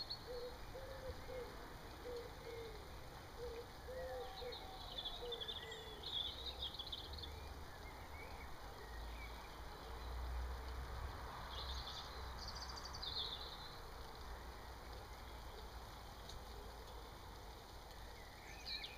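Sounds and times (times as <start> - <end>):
birds chirping: 0.0 - 10.8, 11.4 - 18.9.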